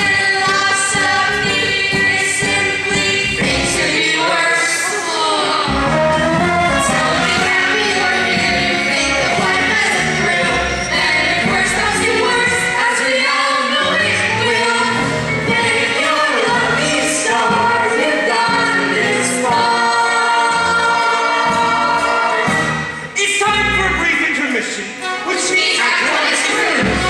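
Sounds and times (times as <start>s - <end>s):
group of voices singing: 0.0s - 23.1s, 23.9s - 27.0s
instrumental accompaniment: 0.0s - 27.0s.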